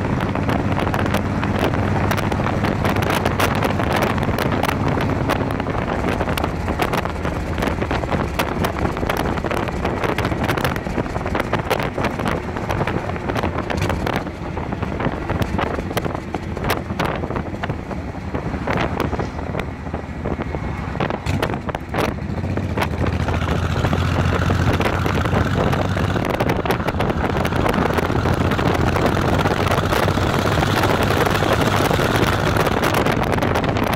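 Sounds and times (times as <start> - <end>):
motorcycle engine and tyre noise: 0.0 - 33.9
wind buffeting the microphone: 0.0 - 33.9.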